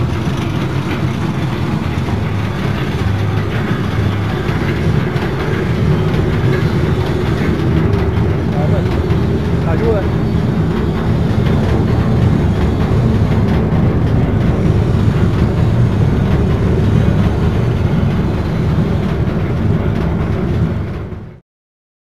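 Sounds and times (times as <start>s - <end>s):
screw conveyor rumbling: 0.0s - 21.4s.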